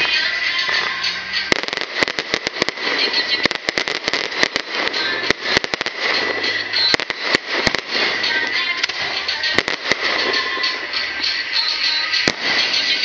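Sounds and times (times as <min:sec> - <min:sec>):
fireworks bangs: 0:00.0 - 0:13.0
fireworks crackle: 0:00.0 - 0:13.0.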